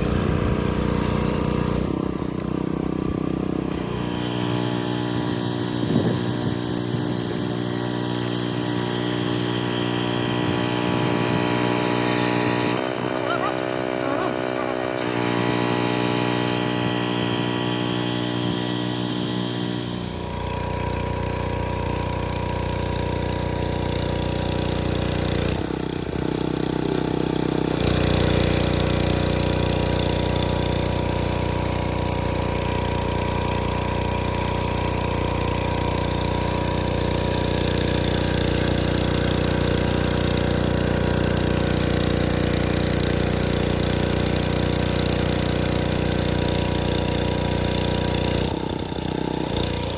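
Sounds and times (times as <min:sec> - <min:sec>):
high-pressure water spray hiss: 0:00.0 - 0:49.9
pressure washer engine running: 0:00.0 - 0:49.9.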